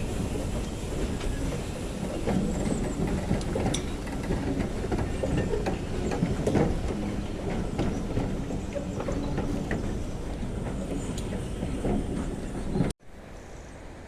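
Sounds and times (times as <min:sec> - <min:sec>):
wheels clicking over rail joints: 0:00.0 - 0:13.0
train rumbling: 0:00.0 - 0:14.0.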